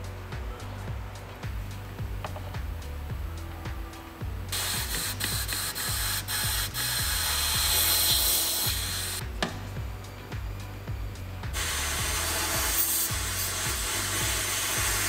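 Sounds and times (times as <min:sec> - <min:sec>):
background music with steady beat: 0:00.0 - 0:15.0
compressed air blow gun hissing: 0:02.8 - 0:15.0.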